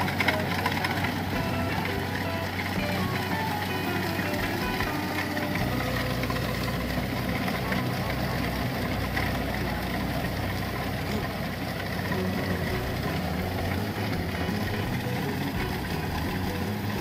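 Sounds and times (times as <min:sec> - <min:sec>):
diesel engine running: 0:00.0 - 0:17.0
threshing machinery whirring: 0:00.0 - 0:17.0.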